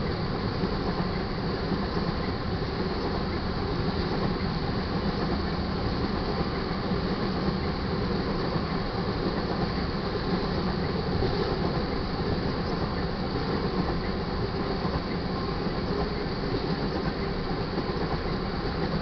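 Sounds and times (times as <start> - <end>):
steel wheels on rail: 0.0 - 19.0.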